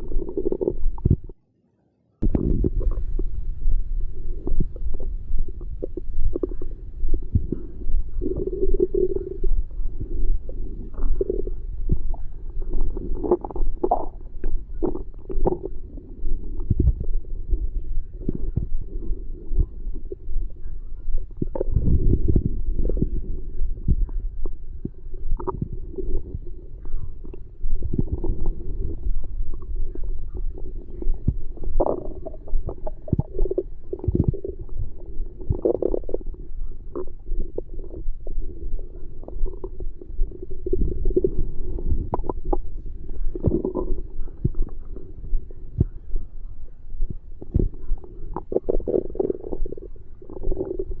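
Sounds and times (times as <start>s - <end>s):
soft low thumps: 0.0s - 1.4s, 2.2s - 51.0s
stomach growling and gurgling: 0.0s - 1.4s, 2.2s - 51.0s.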